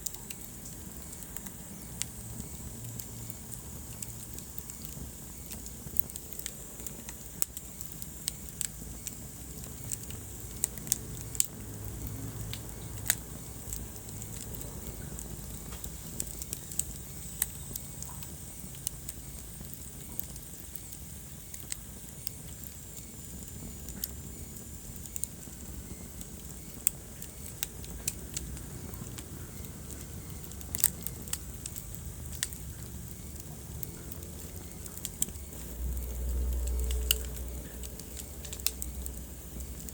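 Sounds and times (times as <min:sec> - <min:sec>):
fire crackling and popping: 0:00.0 - 0:39.9
fire rumbling and hissing: 0:00.0 - 0:39.9.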